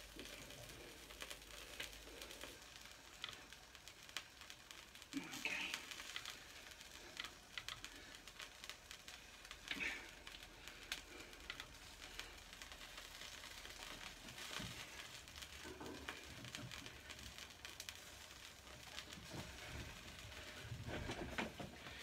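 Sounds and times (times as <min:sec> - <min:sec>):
chicken sizzling on charcoal grill: 0:00.0 - 0:22.0.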